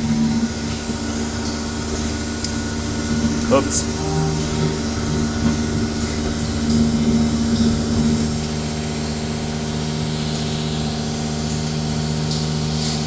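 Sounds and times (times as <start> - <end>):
engine and vacuum pump drone: 0.0 - 13.0.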